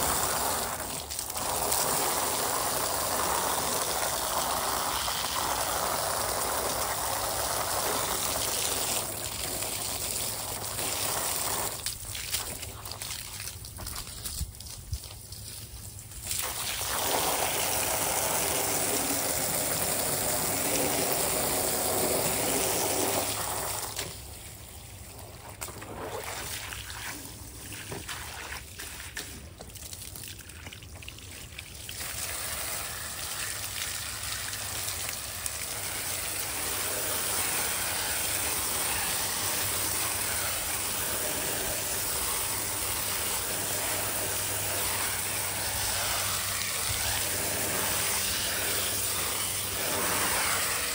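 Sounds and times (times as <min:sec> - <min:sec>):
hose water splashing onto concrete: 0:00.0 - 0:50.9.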